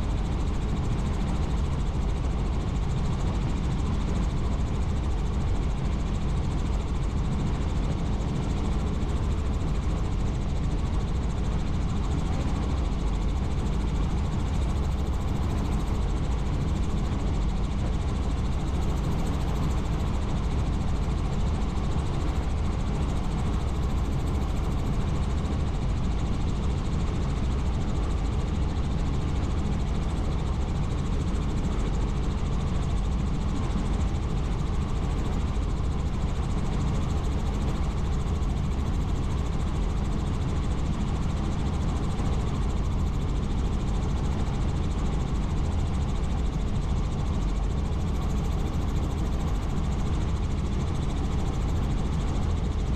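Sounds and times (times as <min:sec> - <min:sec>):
helicopter rotor drone: 0:00.0 - 0:52.9.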